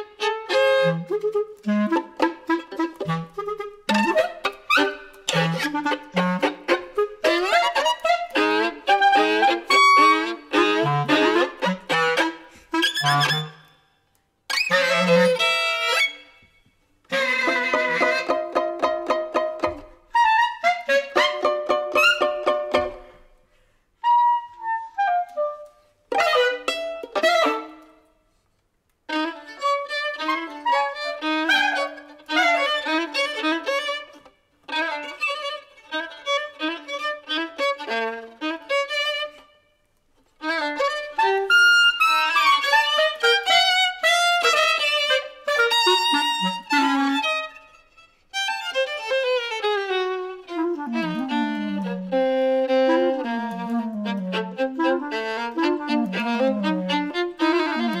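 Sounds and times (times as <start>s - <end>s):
clarinet playing: 0.0s - 23.3s, 24.0s - 28.1s, 29.1s - 39.4s, 40.4s - 58.0s
violin playing: 0.0s - 23.4s, 24.0s - 28.1s, 29.1s - 58.0s.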